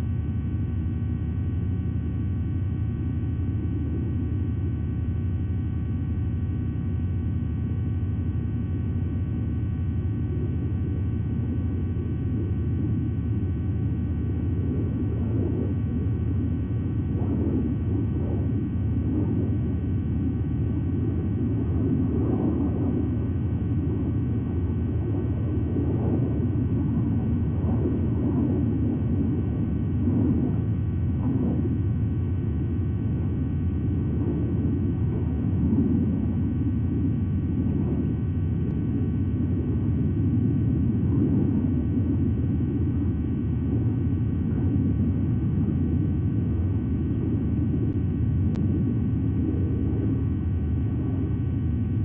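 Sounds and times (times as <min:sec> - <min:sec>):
low rumble: 0:00.0 - 0:52.0.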